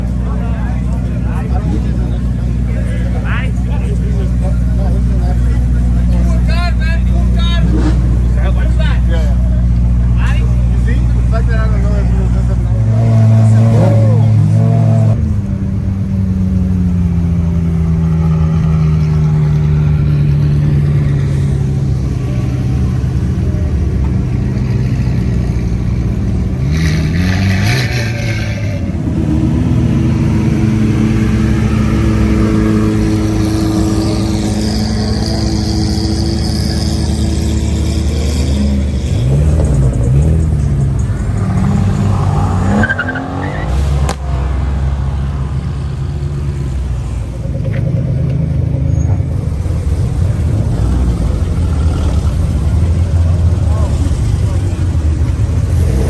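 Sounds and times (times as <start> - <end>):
car engines rumbling and revving: 0.0 - 56.0.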